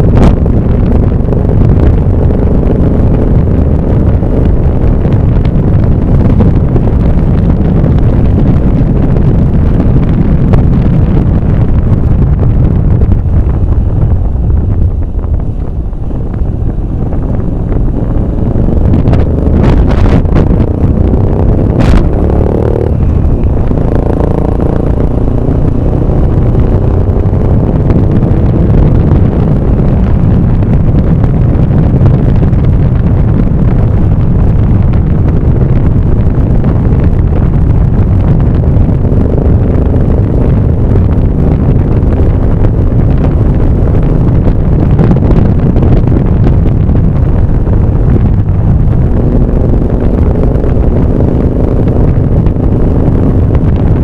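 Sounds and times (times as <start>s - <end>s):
engine tones: 0.0s - 54.0s
wind and road noise: 0.0s - 54.0s.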